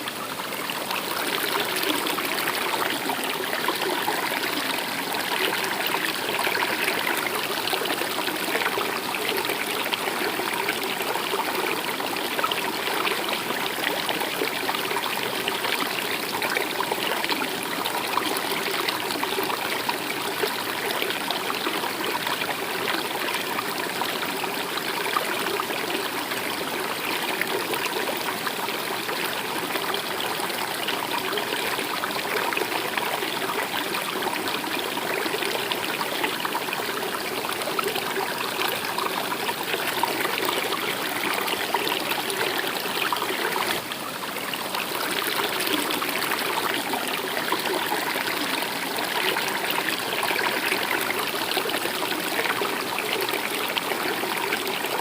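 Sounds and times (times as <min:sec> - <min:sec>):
stream flowing and trickling: 0:00.0 - 0:55.0.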